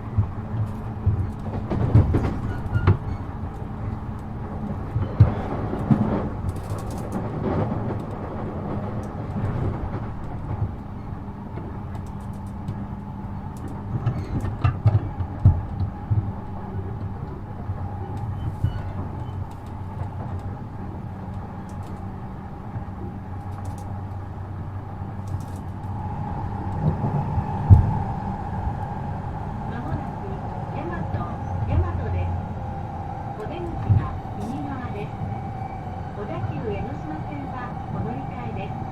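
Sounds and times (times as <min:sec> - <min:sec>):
train hum and faint whine: 0:00.0 - 0:38.9
train wheels rumbling on rail: 0:00.0 - 0:38.9.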